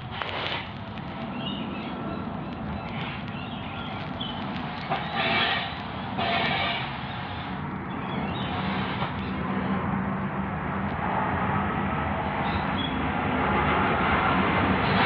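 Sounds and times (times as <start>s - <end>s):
vehicle rumble and road noise: 0.0s - 15.0s.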